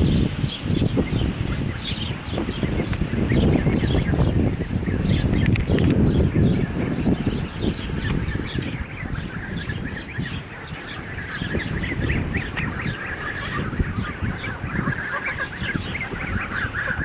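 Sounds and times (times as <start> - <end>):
goslings and ducklings peeping: 0.0 - 17.0.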